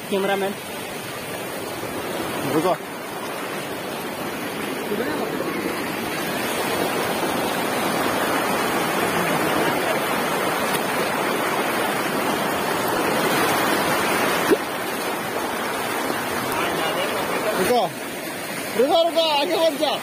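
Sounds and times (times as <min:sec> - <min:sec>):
river water rushing over rocks: 0:00.0 - 0:20.0
feet wading through water: 0:00.2 - 0:20.0.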